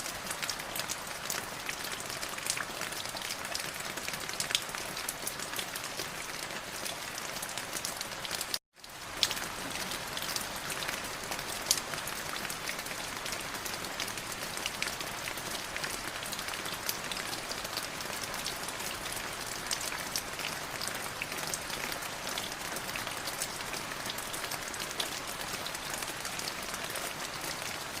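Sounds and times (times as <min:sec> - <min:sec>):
light rain patter: 0:00.0 - 0:28.0.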